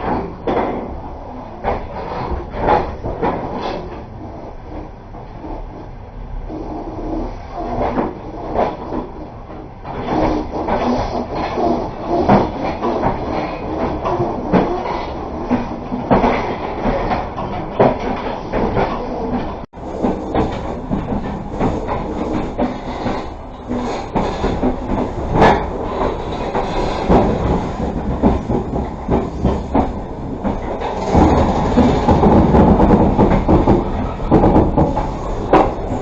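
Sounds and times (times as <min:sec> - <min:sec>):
clacks and knocks from rails: 0:00.0 - 0:04.1, 0:07.6 - 0:36.0
train wheels rumbling: 0:00.0 - 0:36.0.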